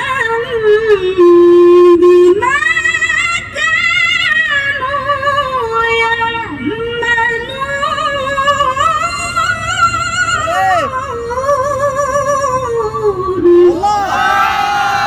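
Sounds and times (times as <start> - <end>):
woman reciting melodically: 0.0 - 13.8.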